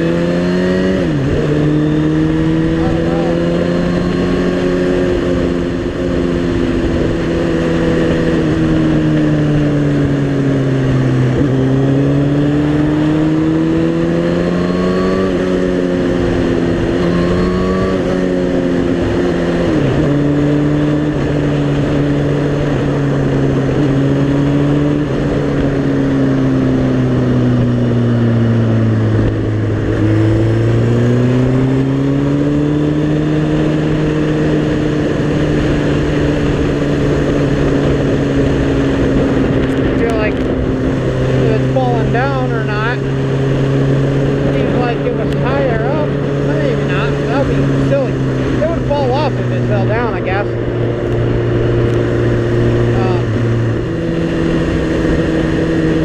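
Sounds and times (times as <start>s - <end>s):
motorcycle engine under way: 0.0s - 56.0s.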